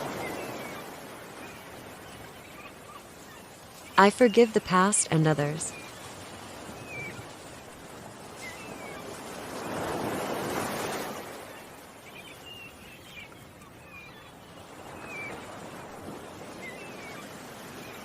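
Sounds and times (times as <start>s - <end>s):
small birds chirping: 0.0s - 10.0s, 10.8s - 18.0s
ocean waves washing onto shore: 0.0s - 18.0s.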